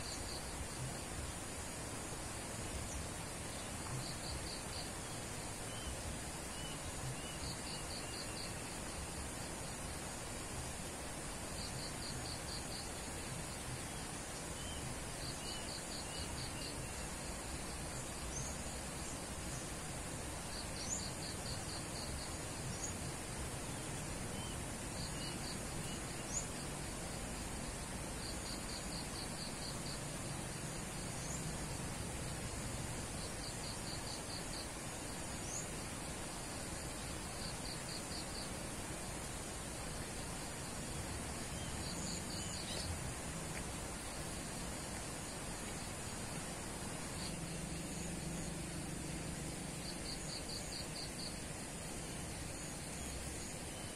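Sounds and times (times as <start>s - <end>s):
insect chirping in rapid pulses: 0.0s - 53.9s
steady high hiss: 0.0s - 53.9s.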